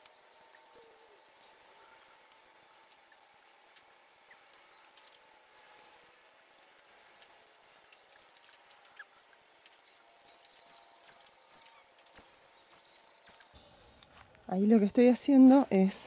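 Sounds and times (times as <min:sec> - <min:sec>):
low steady hum: 0:00.0 - 0:16.0
small ticks: 0:01.3 - 0:14.4.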